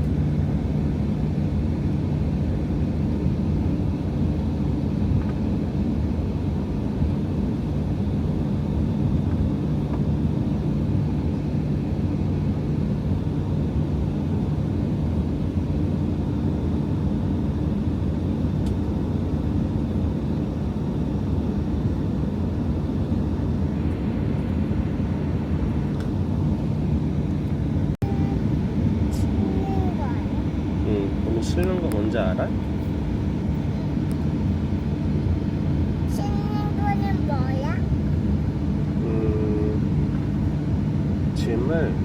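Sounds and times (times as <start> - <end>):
jet engines droning in cabin: 0.0 - 42.0.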